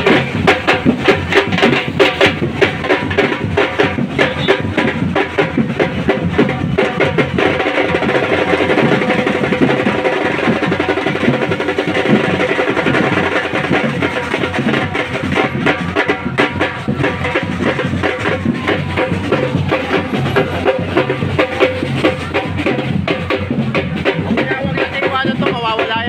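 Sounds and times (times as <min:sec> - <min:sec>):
percussion band drumming: 0:00.0 - 0:26.0.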